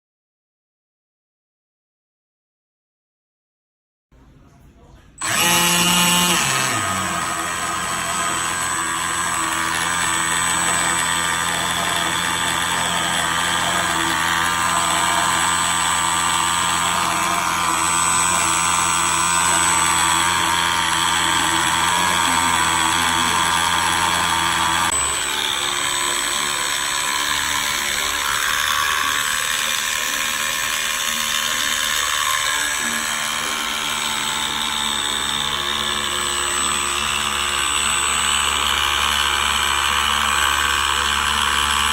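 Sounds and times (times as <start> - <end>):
electric motor whining: 5.2 - 41.9.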